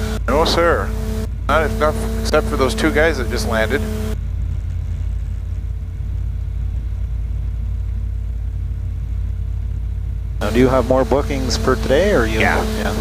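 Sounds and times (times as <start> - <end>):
aircraft engine and propeller drone: 0.0 - 13.0.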